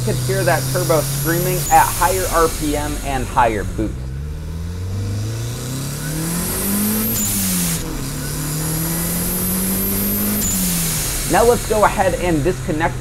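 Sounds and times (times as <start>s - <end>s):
blow-off valve hiss: 0.0s - 4.0s, 4.9s - 13.0s
car engine revving: 0.0s - 13.0s
turbo whine: 0.0s - 13.0s.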